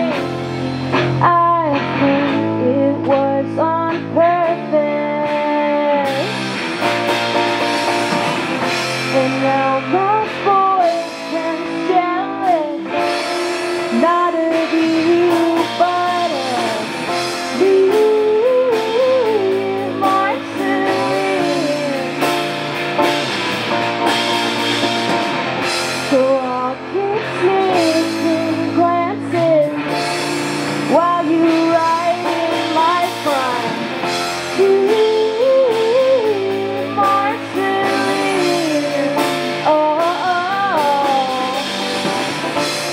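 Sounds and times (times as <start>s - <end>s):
woman singing: 0.0s - 0.4s, 1.0s - 6.4s, 9.0s - 22.4s, 26.0s - 30.0s, 30.8s - 42.3s
electric guitar: 0.0s - 42.9s.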